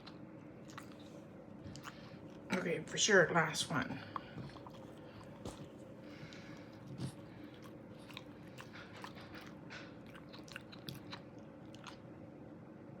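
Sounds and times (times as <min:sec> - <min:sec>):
puppy chewing and crunching: 0:00.0 - 0:12.4.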